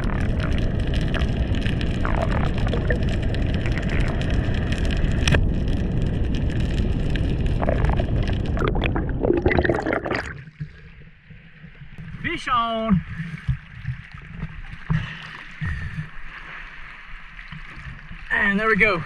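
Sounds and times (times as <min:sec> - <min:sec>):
crackling clicks: 0:00.0 - 0:16.2
underwater rushing: 0:00.0 - 0:19.0.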